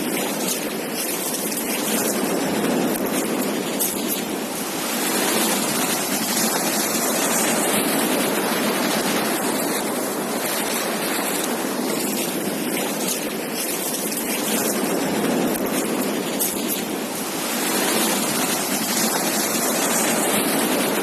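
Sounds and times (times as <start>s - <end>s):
surf washing on beach: 0.0s - 21.0s.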